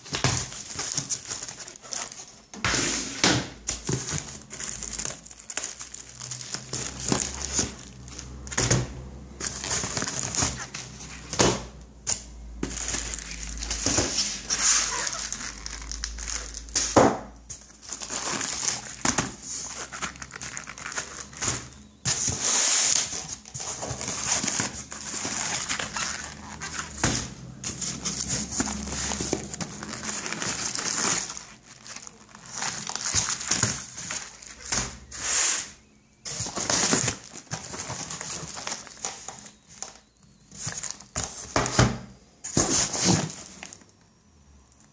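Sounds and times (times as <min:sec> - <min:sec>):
packaging crinkling and rustling: 0:00.0 - 0:02.6, 0:03.6 - 0:44.1.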